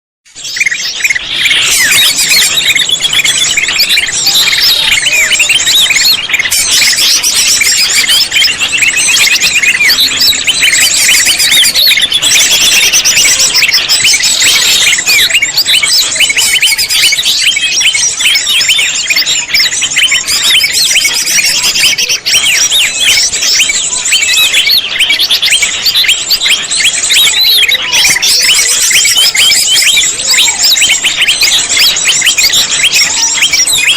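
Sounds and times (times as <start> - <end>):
bird chirps and trills: 0.3 - 33.9.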